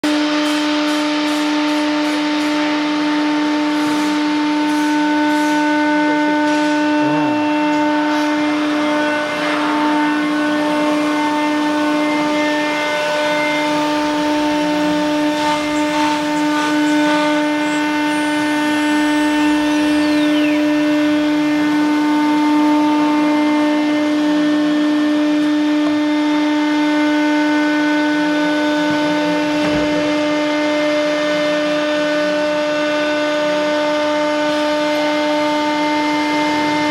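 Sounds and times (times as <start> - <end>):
router spindle whine: 0.0 - 36.9.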